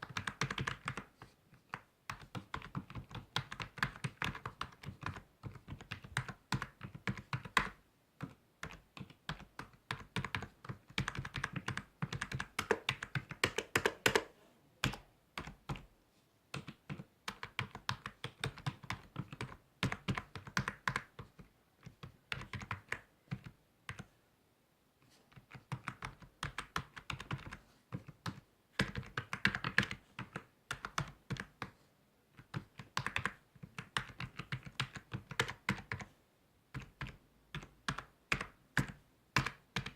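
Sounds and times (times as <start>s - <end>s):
computer keyboard typing: 0.0s - 15.9s, 16.5s - 24.1s, 25.3s - 31.8s, 32.4s - 36.1s, 36.7s - 39.9s.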